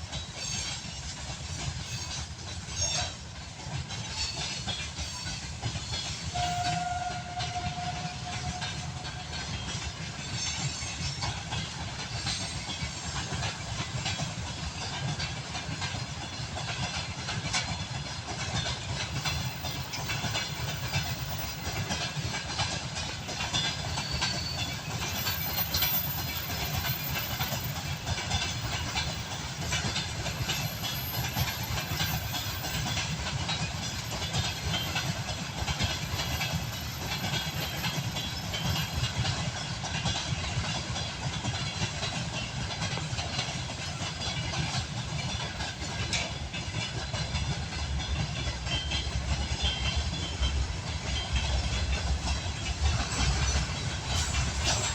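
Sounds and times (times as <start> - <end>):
train wheels clattering over rail joints: 0.0 - 54.9.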